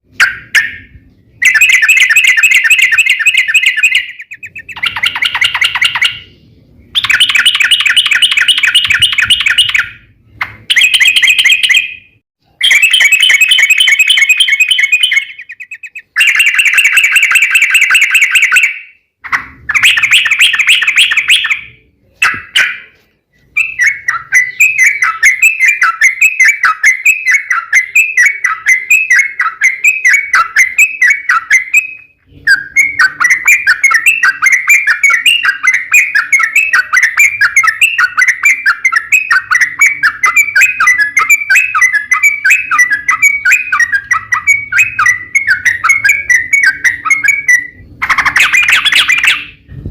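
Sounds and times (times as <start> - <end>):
bulbul singing: 0.0 - 49.7.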